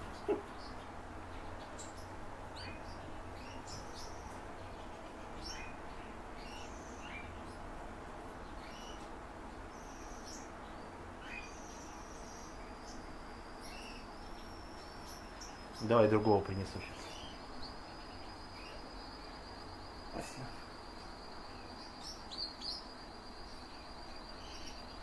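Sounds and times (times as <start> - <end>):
canaries chirping: 0.0 - 25.0
steady low hum: 0.0 - 25.0.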